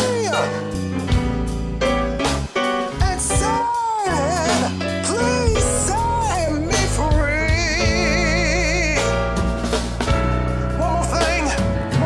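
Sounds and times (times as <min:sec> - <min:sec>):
slow song with gliding melody: 0:00.0 - 0:12.0.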